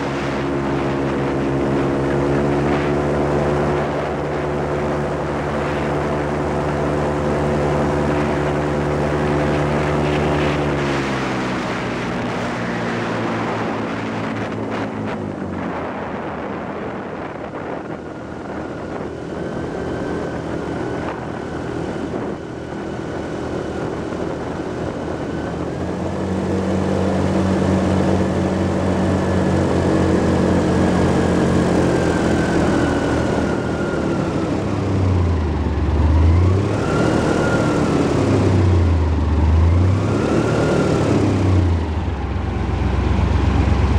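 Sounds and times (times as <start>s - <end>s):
airboat engine and propeller: 0.0s - 43.9s.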